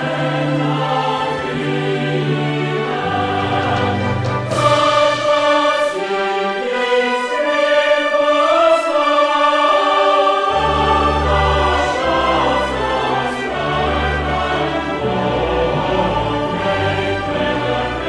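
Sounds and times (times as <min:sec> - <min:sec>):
choir singing long notes: 0:00.0 - 0:18.0
orchestral music: 0:00.0 - 0:18.0.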